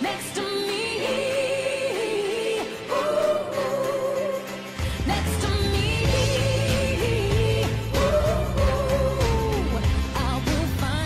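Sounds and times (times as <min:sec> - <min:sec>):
pop song: 0:00.0 - 0:11.0.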